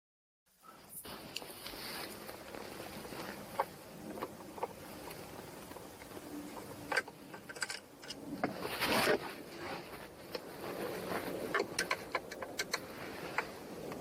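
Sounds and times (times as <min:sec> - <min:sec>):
scraping rustle: 0:00.7 - 0:14.0.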